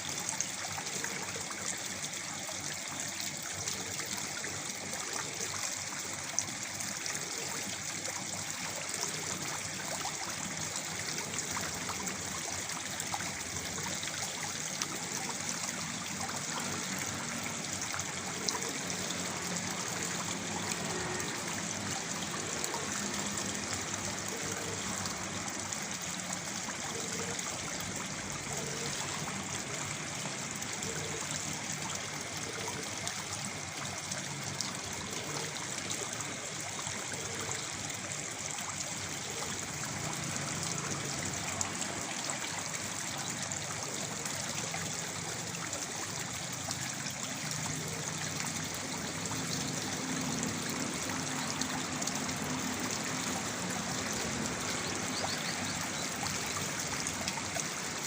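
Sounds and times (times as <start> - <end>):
waterfall pouring into pool: 0.0 - 58.0.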